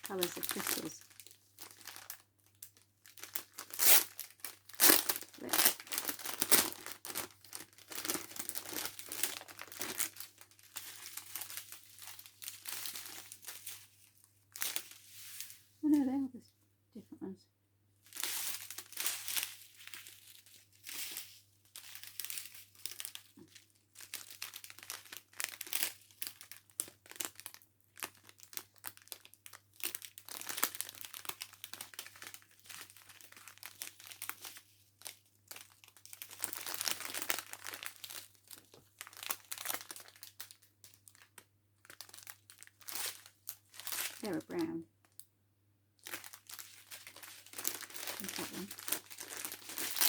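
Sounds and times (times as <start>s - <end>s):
plastic packets crinkling: 0.0s - 15.6s, 18.1s - 45.3s, 46.0s - 50.0s.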